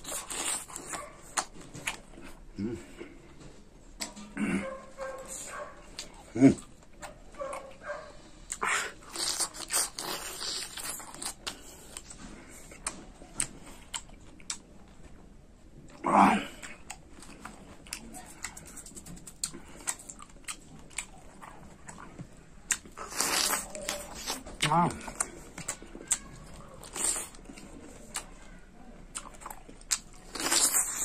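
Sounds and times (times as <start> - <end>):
wet chewing and lip-smacking: 0.0 - 2.5, 4.0 - 31.0.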